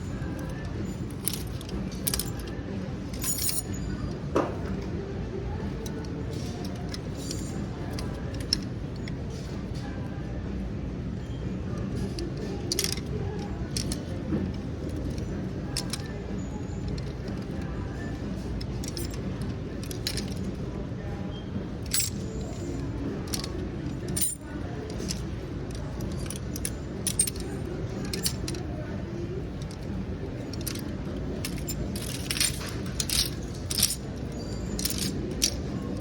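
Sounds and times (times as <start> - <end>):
light clinks and clicks: 0.0 - 4.7, 5.7 - 9.9, 11.7 - 20.7, 21.7 - 36.0.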